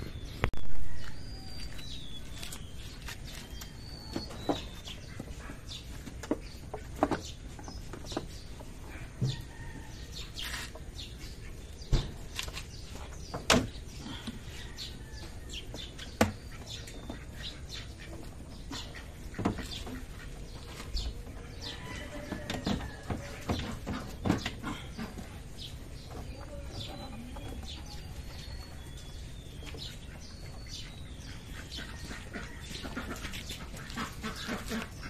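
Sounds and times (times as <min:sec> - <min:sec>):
birds chirping faintly: 0:00.0 - 0:35.0.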